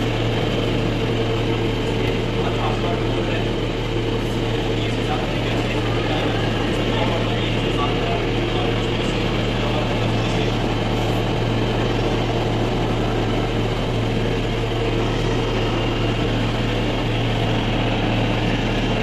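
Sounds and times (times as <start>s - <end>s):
cotton candy machine motor hum: 0.0s - 19.0s.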